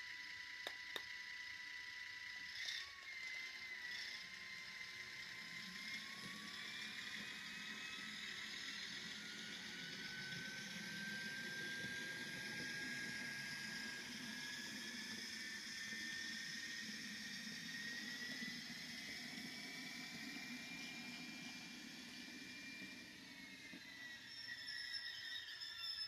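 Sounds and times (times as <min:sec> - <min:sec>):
model locomotive drive whine: 0:00.0 - 0:26.0.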